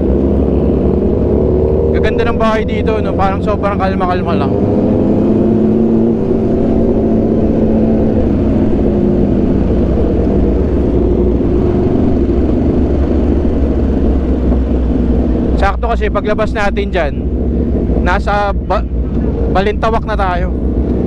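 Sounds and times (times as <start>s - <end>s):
low wind rumble: 0.0s - 21.0s
motorcycle engine cruising: 0.0s - 21.0s.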